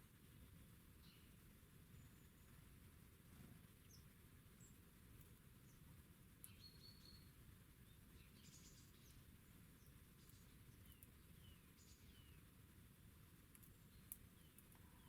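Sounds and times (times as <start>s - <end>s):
small birds calling: 0.4s - 2.7s, 3.6s - 15.0s.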